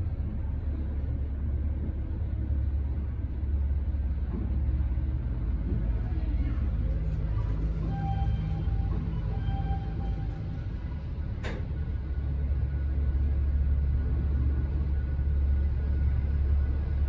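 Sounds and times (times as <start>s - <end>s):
elevator low rumble: 0.0s - 17.0s.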